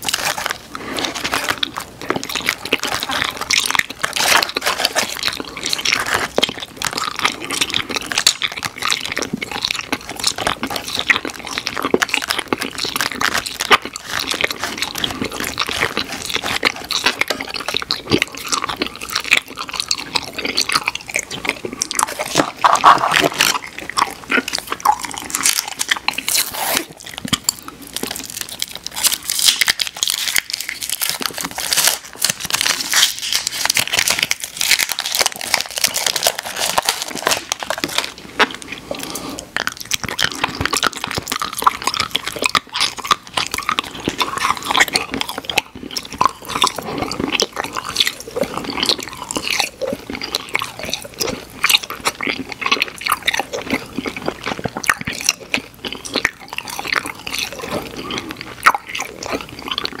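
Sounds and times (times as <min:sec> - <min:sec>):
chewing and crunching candy: 0:00.0 - 1:00.0.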